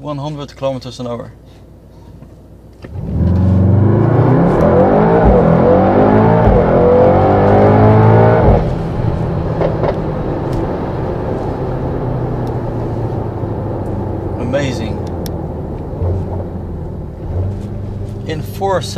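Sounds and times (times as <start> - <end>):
car engine full-throttle launch: 2.8 - 18.9
gear changes: 2.8 - 18.9.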